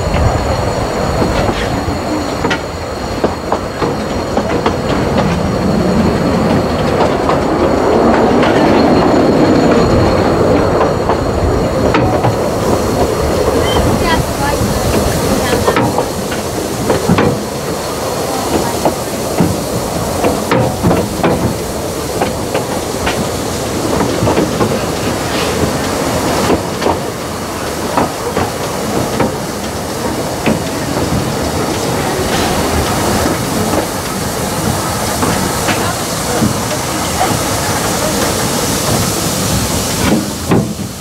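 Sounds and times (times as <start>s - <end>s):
carriage wheels clattering on rails: 0.0s - 41.0s
steam locomotive hissing: 0.0s - 41.0s.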